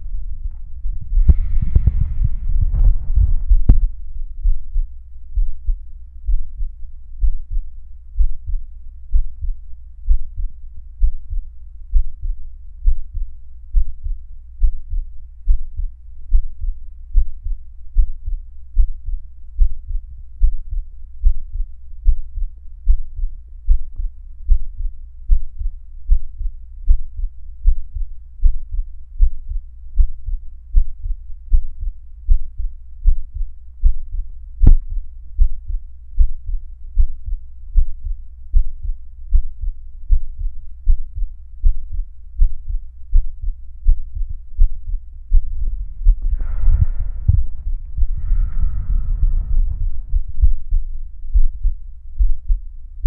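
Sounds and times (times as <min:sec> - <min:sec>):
heartbeat thumps: 0:00.0 - 0:53.0.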